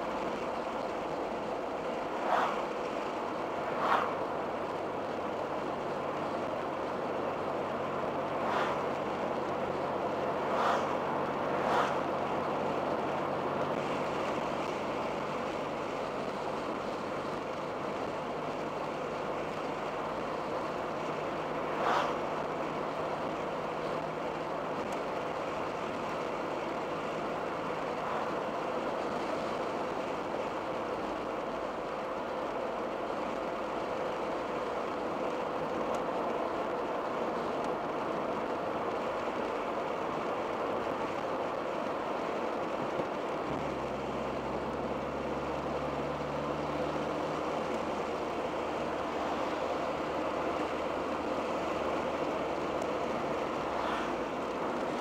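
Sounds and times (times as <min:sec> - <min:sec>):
car engine cruising: 0:00.0 - 0:55.0
tyre and road noise: 0:00.0 - 0:55.0.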